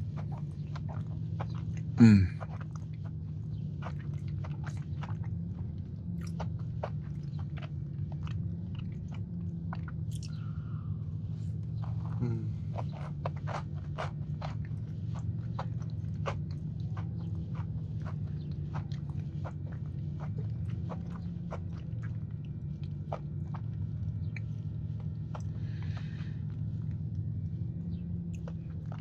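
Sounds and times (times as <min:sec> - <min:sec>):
chewing crunchy cookie: 0:00.0 - 0:29.0.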